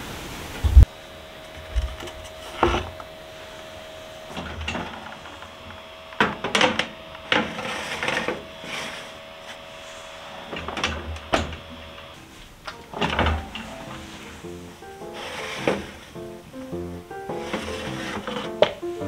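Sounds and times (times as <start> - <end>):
baking tray scraping oven rack: 1.5 - 18.9.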